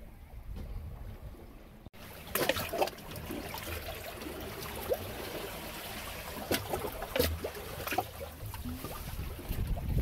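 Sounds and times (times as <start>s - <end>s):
water splashing and trickling: 2.0s - 10.0s.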